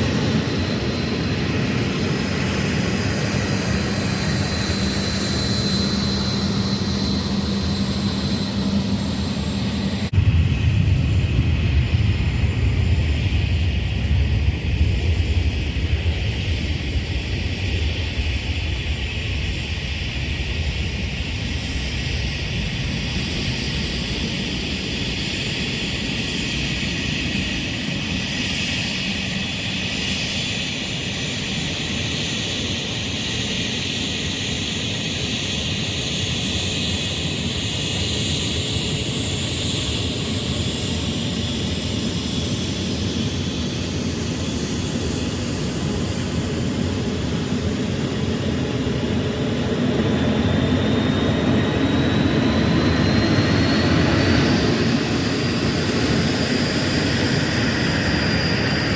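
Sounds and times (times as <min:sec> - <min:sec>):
airliner engines whining: 0:00.0 - 0:58.9.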